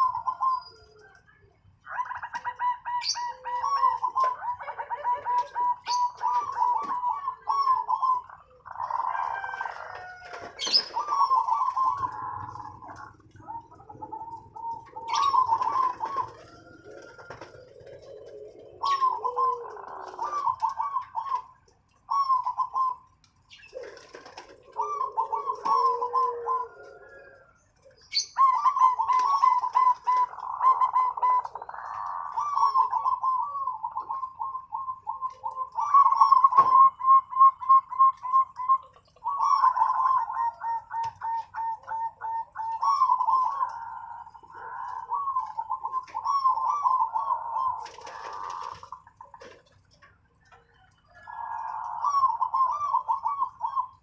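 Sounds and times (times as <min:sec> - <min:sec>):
lower softer cooing: 0:00.0 - 0:21.5, 0:23.7 - 0:49.1
doves cooing: 0:00.0 - 0:54.0.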